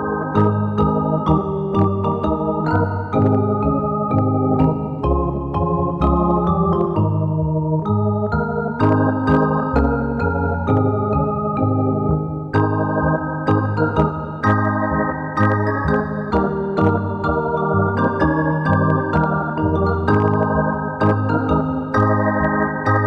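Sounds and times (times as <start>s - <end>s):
organ playing held chords: 0.0s - 23.0s.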